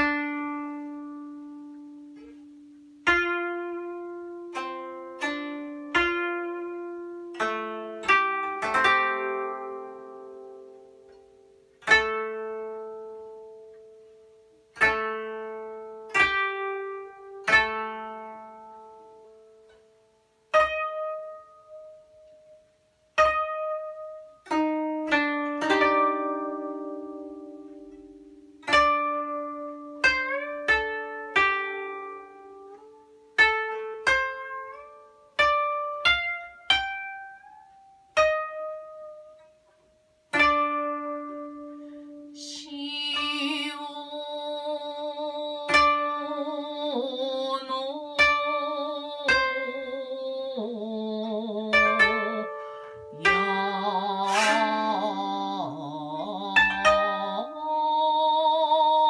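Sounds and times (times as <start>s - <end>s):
koto plucked notes: 0.0s - 59.0s.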